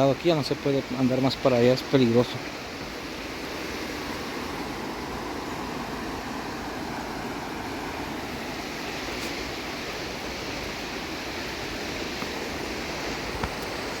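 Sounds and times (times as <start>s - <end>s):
flooded river rushing: 0.0s - 14.0s.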